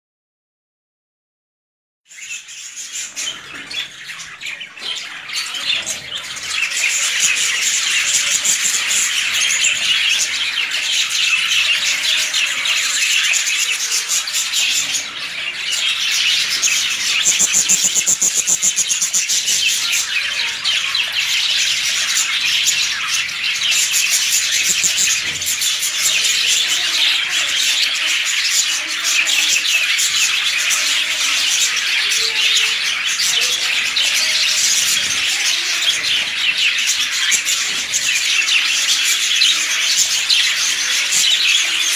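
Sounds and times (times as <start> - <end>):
flock of birds chattering: 2.1 - 41.9.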